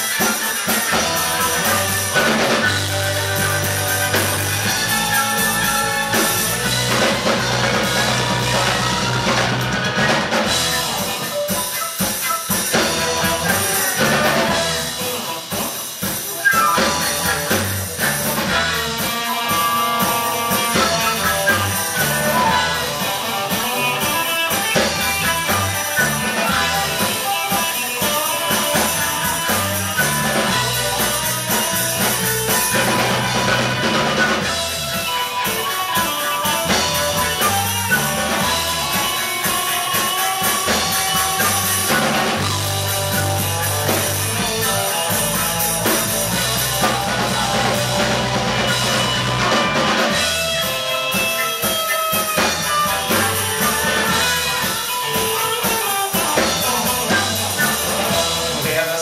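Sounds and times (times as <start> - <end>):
bass notes: 0.0 - 11.4, 12.7 - 15.2, 16.6 - 19.2, 20.4 - 27.2, 28.5 - 35.1, 36.6 - 51.2, 52.4 - 54.8, 56.2 - 58.8
flute melody: 0.0 - 58.6
drum kit: 0.0 - 59.0
electric guitars: 0.0 - 59.0.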